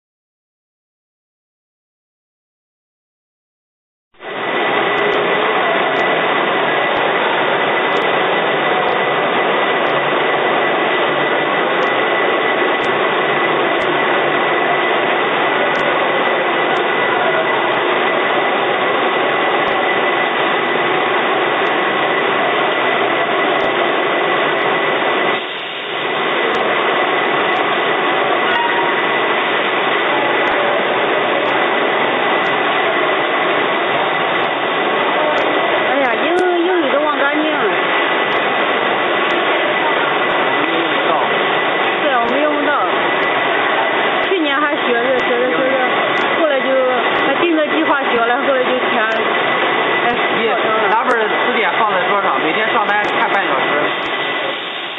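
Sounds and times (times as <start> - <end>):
high machine whine: 4.2 - 54.9
loud steady machine noise: 4.2 - 54.9.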